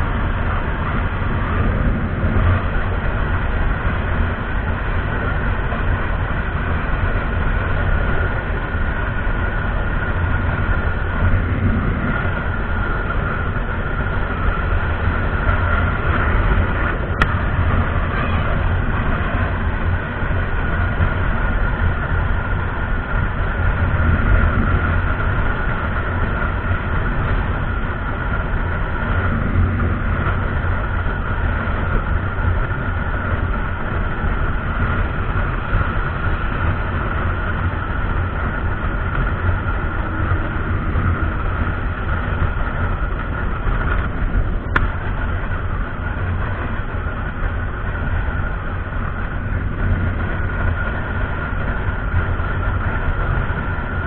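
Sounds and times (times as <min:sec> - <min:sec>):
faint steady whine: 0:00.0 - 0:54.0
motorcycle engine running: 0:00.0 - 0:54.0
wind and road noise: 0:00.0 - 0:54.0.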